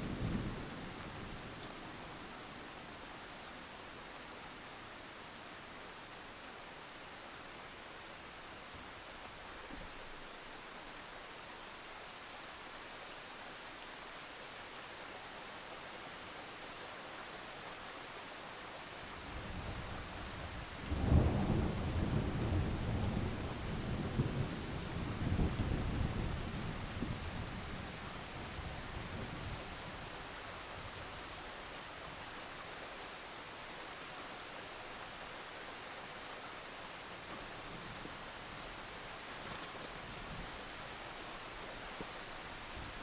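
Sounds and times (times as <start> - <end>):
rain hiss: 0.0 - 43.0.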